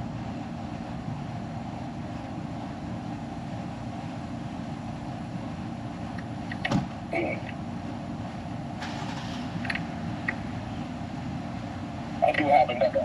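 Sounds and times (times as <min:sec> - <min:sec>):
faint constant hum: 0:00.0 - 0:13.0
low background rumble: 0:00.0 - 0:13.0.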